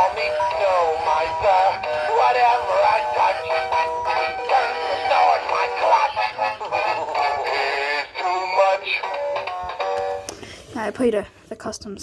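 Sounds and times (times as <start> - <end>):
music with singing from toy speaker: 0.0 - 10.3.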